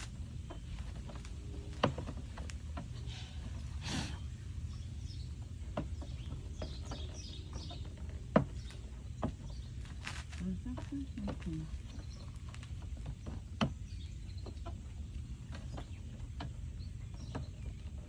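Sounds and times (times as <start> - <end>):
birds chirping faintly: 0.0 - 18.0
low steady rumble: 0.0 - 18.0.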